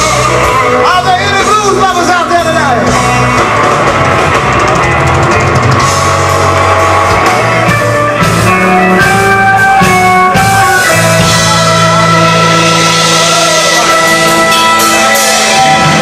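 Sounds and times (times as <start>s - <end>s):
bass guitar: 0.0s - 16.0s
drums: 0.0s - 16.0s
electric lead guitar: 0.0s - 16.0s.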